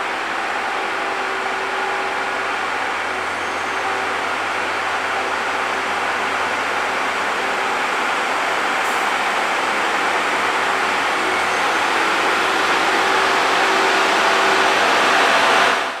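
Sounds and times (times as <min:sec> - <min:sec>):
rail machine engine running: 0:00.0 - 0:16.0.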